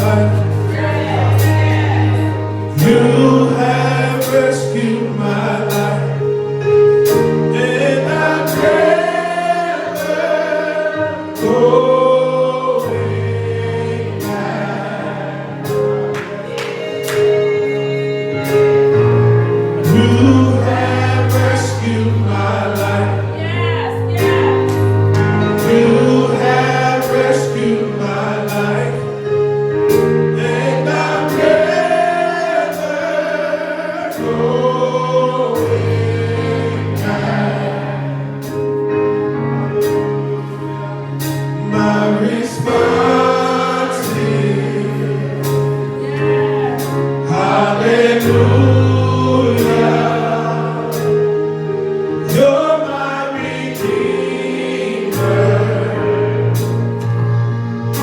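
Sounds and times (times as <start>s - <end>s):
choir singing gospel music: 0.0s - 58.0s
sustained bass notes: 0.0s - 58.0s.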